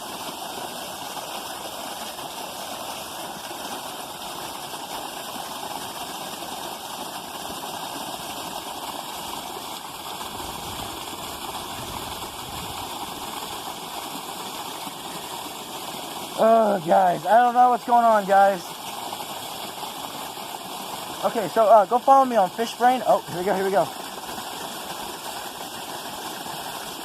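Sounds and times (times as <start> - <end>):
creek water running: 0.0 - 27.0.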